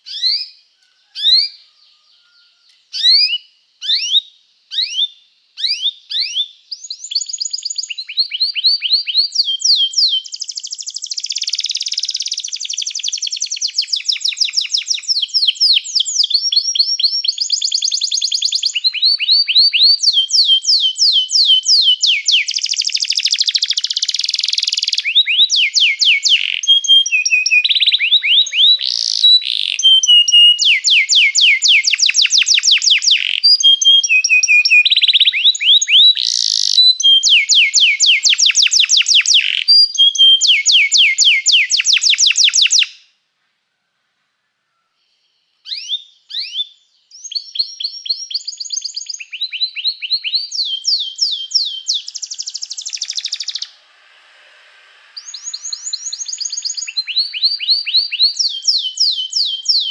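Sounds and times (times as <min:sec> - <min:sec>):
canary singing trills: 0:00.0 - 0:43.0, 0:45.6 - 0:53.8, 0:55.2 - 0:59.9.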